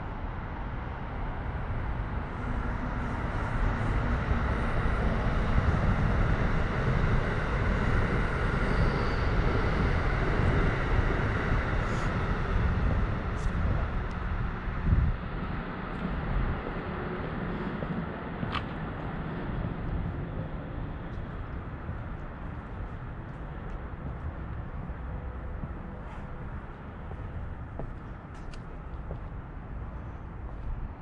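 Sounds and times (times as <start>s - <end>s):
passing traffic rumbling: 1.1s - 31.0s.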